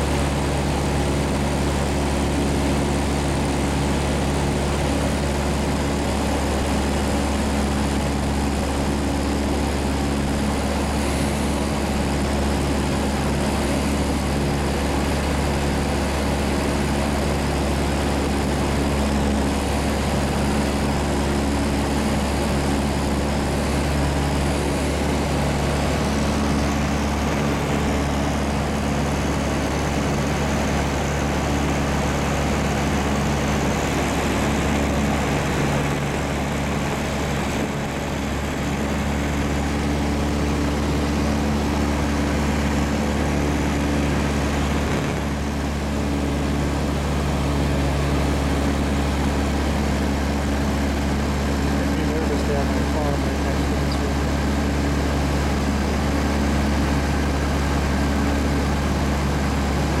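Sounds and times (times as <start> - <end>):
light aircraft engine drone: 0.0 - 60.0.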